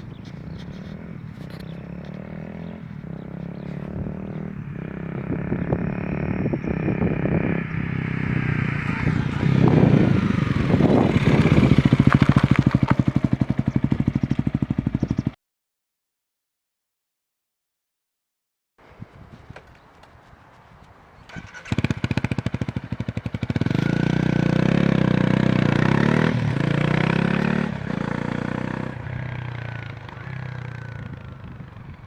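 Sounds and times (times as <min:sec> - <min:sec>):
motorcycle engine revving: 0:00.0 - 0:15.4, 0:21.3 - 0:32.0.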